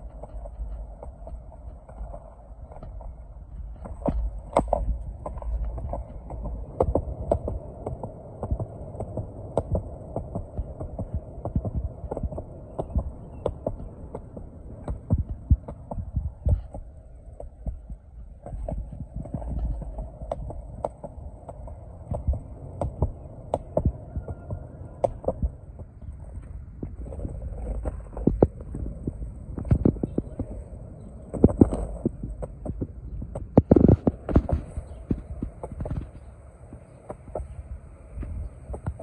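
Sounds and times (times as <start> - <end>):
skateboard wheels rolling on pavement: 0.0 - 39.0.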